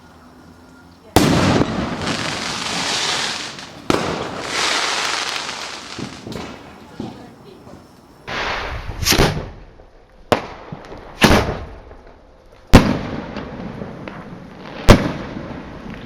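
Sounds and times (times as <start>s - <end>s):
fireworks bangs: 1.0s - 16.0s.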